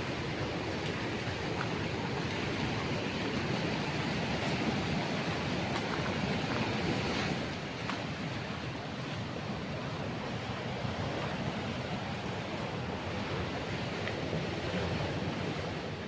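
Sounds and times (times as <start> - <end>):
sea surf on rocky shore: 0.0 - 16.0.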